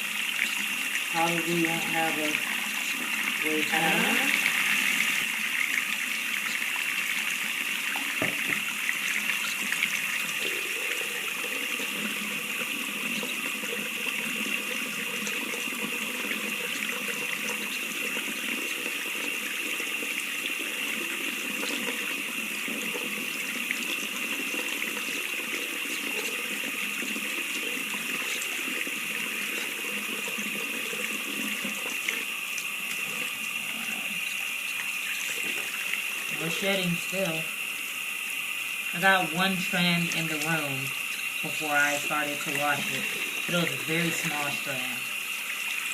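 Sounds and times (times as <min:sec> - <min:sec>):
faucet water running into sink: 0:00.0 - 0:45.9.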